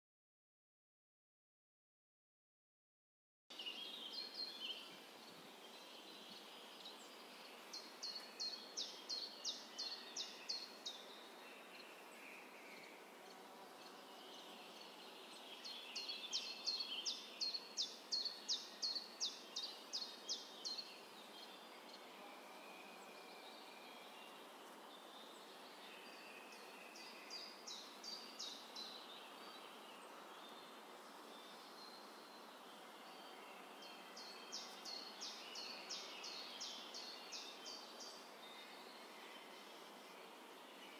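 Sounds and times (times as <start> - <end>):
faint steady hiss: 3.5 - 40.9.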